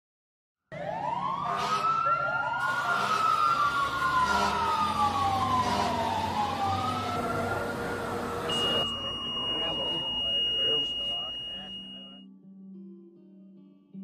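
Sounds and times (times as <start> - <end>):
sirens wailing: 0.7 - 12.2.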